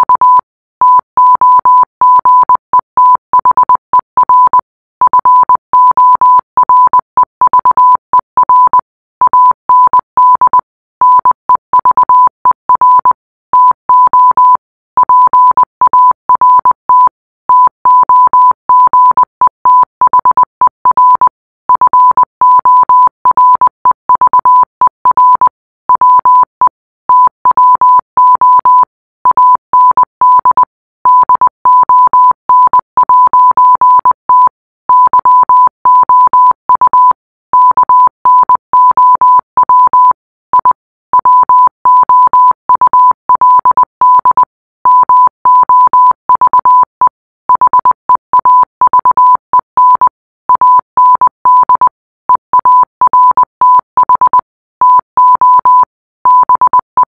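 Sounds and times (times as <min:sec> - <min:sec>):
morse code beeps: 0:00.0 - 0:57.0.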